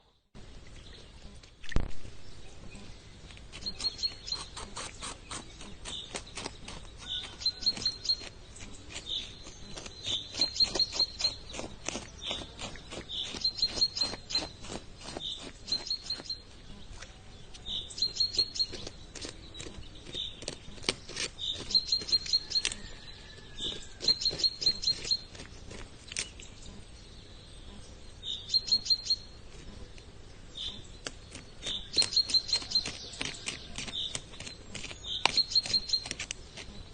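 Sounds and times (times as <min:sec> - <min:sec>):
songbird trilling chirps: 0:02.2 - 0:36.9.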